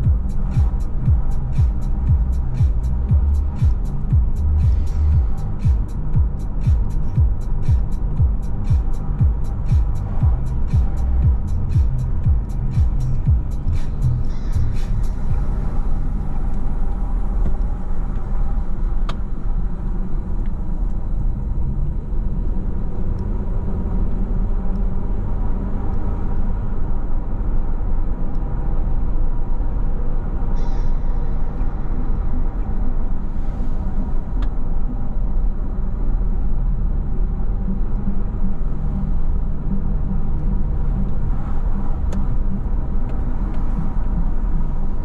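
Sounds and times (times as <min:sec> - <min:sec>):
car interior road rumble: 0:00.0 - 0:45.0.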